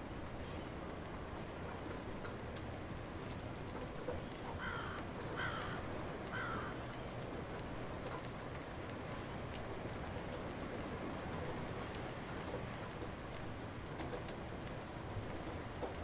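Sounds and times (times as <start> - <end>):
light rain: 0.0 - 16.0.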